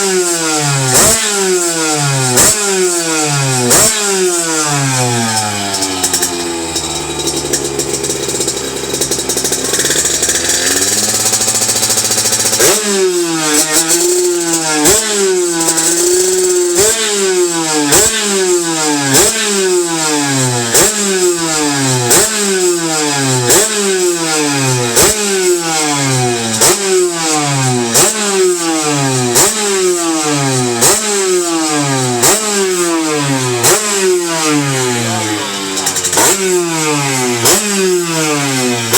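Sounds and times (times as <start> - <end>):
two-stroke moped engine revving: 0.0 - 38.9.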